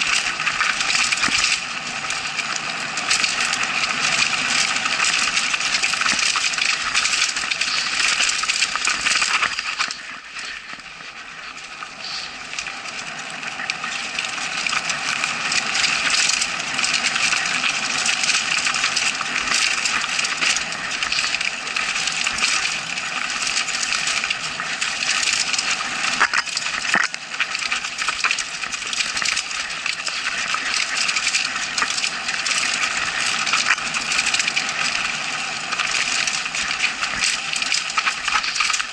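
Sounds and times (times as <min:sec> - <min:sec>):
bike rattling over rough trail: 0:00.0 - 0:38.9.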